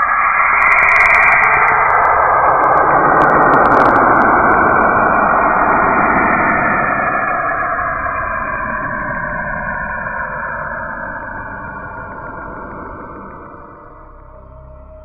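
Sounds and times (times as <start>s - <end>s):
eerie hissing noise: 0.0s - 15.0s
faint drifting tones: 1.6s - 15.0s.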